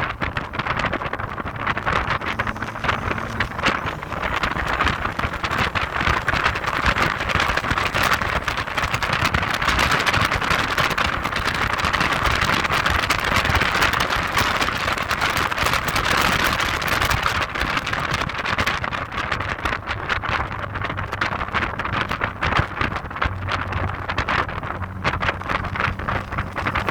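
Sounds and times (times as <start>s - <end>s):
low rumble: 0.0s - 26.9s
wind noise on microphone: 0.0s - 26.9s.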